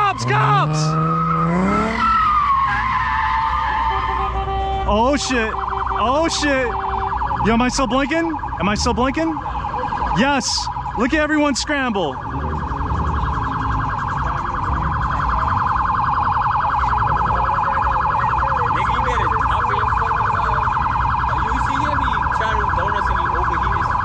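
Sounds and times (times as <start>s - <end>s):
police siren fast warble: 0.0s - 24.0s.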